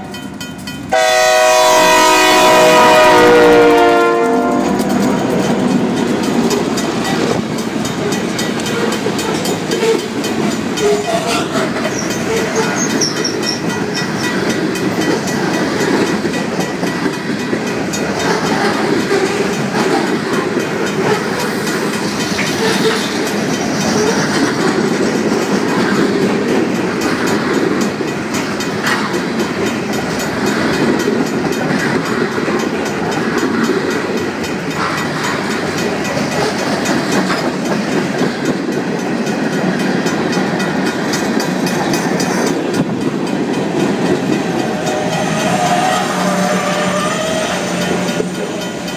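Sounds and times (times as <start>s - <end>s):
freight train rumbling past: 0.0s - 48.9s
wheels clicking over rail joints: 0.0s - 48.9s.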